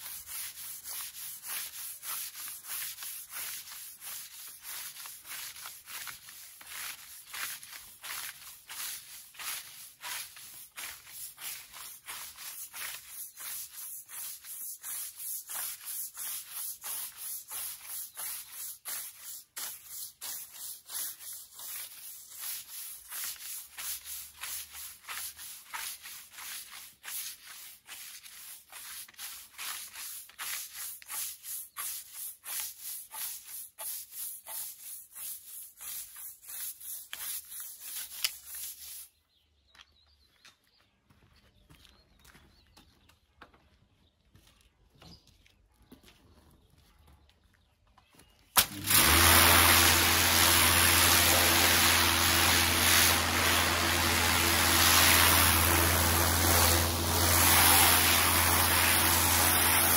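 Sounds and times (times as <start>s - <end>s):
broom scrubbing metal slats: 0.0s - 39.1s, 48.6s - 59.9s.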